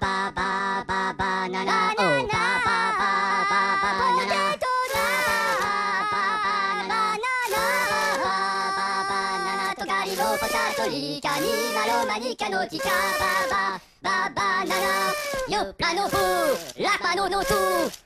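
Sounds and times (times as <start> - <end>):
child singing wordless tune: 0.0 - 18.0.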